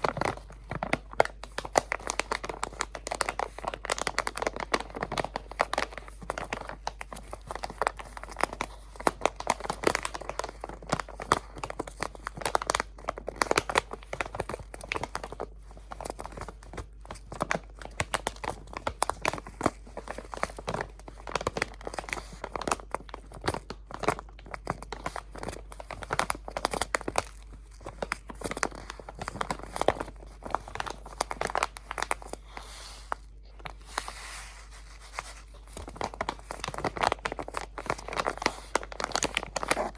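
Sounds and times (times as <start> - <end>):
crinkly material crumpled: 0.0 - 39.9.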